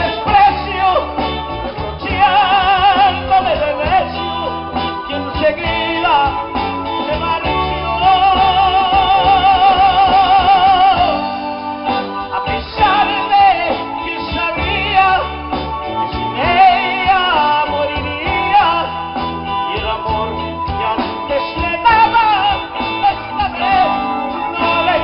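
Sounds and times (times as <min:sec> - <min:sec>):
band playing a ballad: 0:00.0 - 0:25.0
lead melody with vibrato: 0:00.0 - 0:25.0.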